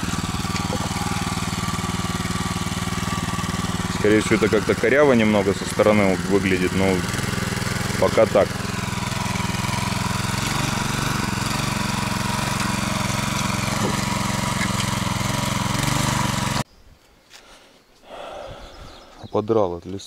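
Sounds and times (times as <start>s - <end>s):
walk-behind tractor engine tilling: 0.0s - 16.6s.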